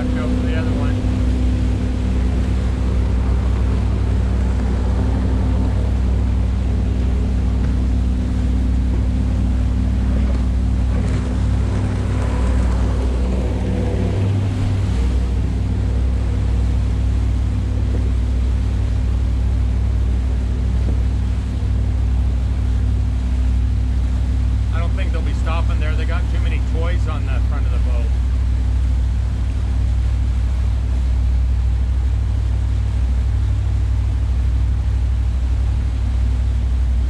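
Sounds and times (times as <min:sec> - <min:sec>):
boat engine droning: 0:00.0 - 0:37.0
water rushing along hull: 0:00.0 - 0:37.0
wind on microphone: 0:00.0 - 0:37.0.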